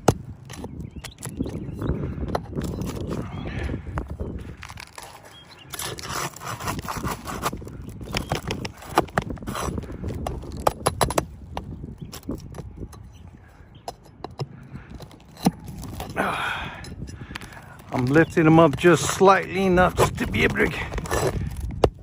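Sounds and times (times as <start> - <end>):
tool scraping under roof shingles: 0.0 - 22.0.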